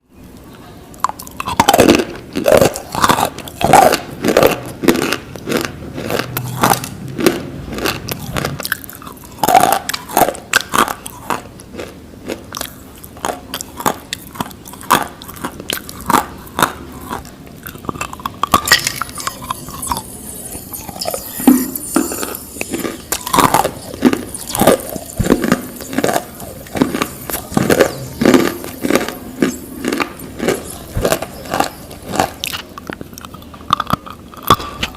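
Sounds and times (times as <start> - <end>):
crunchy food chewing: 0.3 - 34.9.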